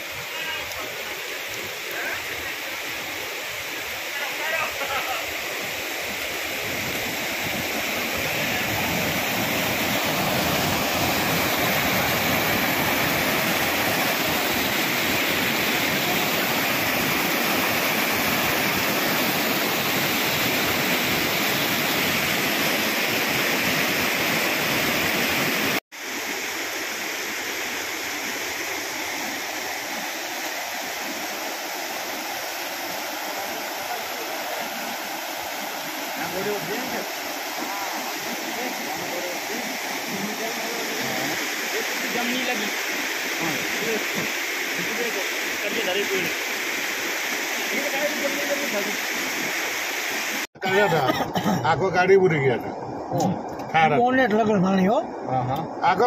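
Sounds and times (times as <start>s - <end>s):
torrential rain: 0.0s - 56.0s.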